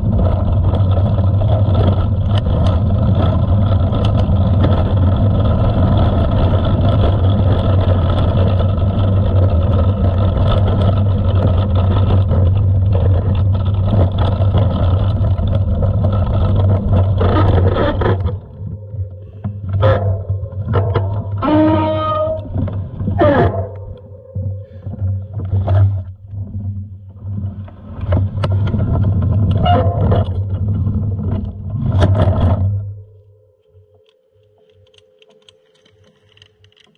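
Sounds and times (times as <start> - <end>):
tyres rumbling over gravel: 0.0 - 33.0.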